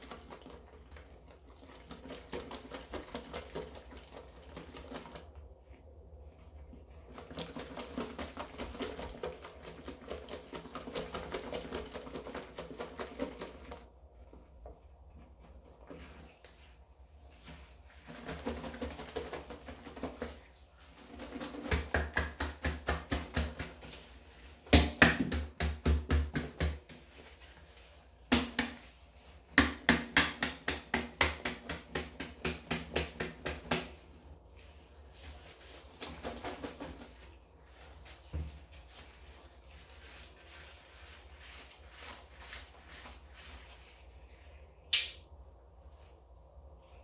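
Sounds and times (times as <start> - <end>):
scrubbing plastic garbage can: 0.0 - 44.7.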